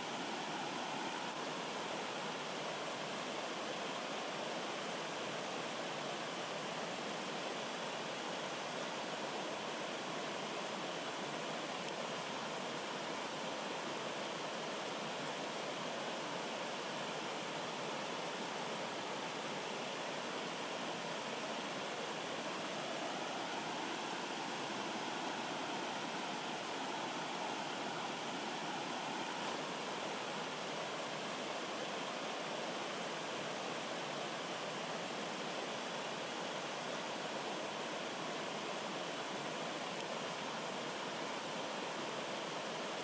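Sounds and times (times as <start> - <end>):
stream rushing over rocks: 0.0 - 43.0.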